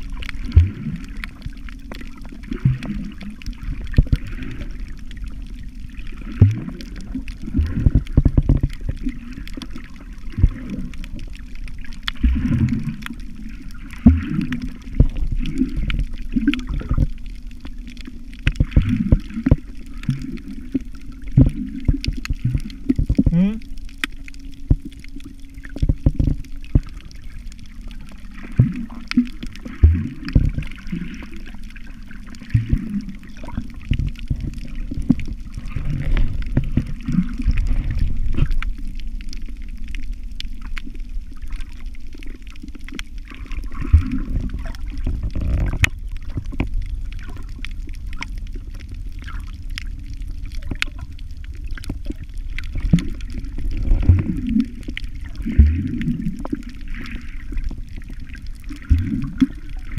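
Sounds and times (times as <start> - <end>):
muffled water sloshing underwater: 0.0 - 59.9.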